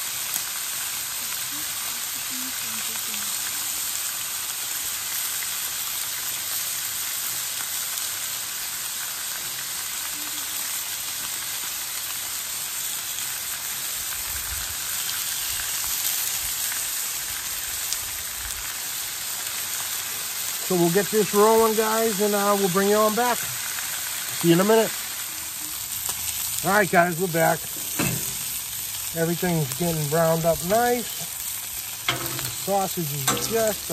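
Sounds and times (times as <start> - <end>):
sausage and bacon sizzling on griddle: 0.0 - 33.9.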